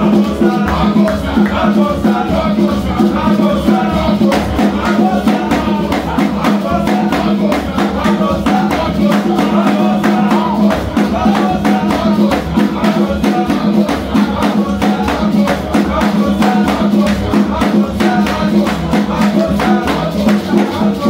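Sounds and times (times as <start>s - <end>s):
keyboard and guitar worship music: 0.0s - 21.0s
voices singing along: 0.0s - 21.0s.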